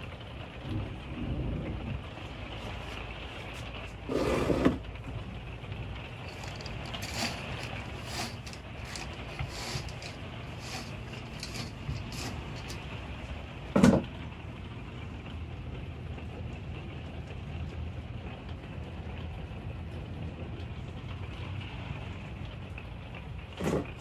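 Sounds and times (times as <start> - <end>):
rain falling on a roof: 0.0 - 24.0.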